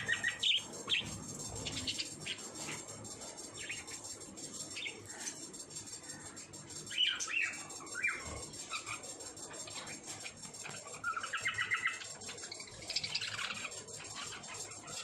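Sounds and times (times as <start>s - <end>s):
parrots chirping: 0.0s - 15.0s.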